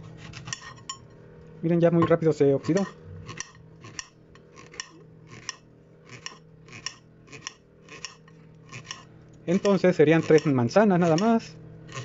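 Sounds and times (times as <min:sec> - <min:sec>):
knife slicing apple: 0:02.2 - 0:12.0.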